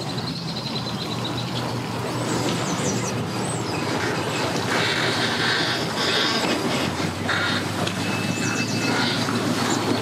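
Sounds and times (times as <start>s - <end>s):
truck engine under load: 0.0s - 10.0s
hissing rush of water: 1.7s - 10.0s.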